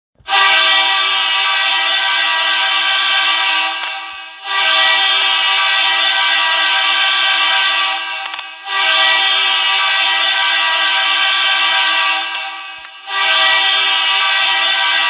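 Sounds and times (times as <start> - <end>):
hockey goal horn blasts: 0.2 - 15.0.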